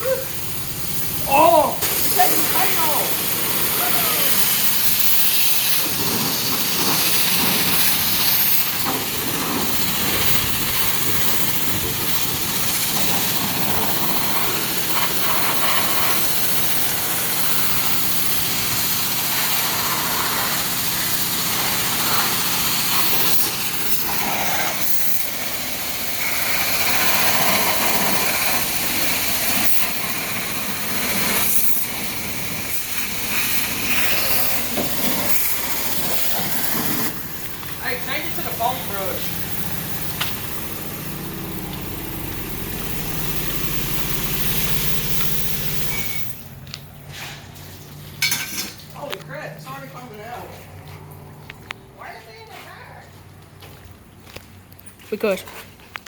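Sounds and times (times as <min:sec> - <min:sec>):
high-pressure water spray hissing: 0:00.0 - 0:49.1.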